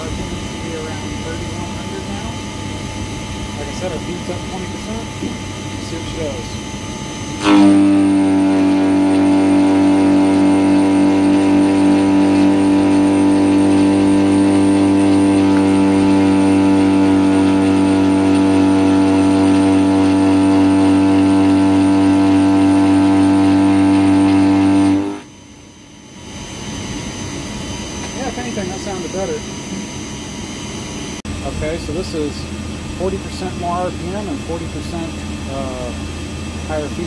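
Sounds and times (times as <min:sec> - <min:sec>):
mill cutting steel hum: 0:00.0 - 0:37.0.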